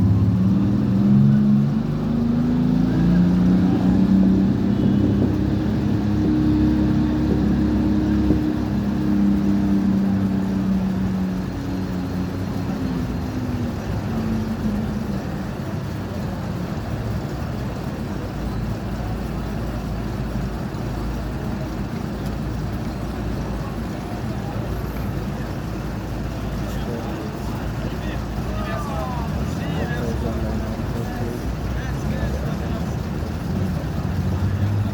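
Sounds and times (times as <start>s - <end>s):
road traffic noise: 0.0s - 34.9s
vehicle engine hum: 0.0s - 34.9s.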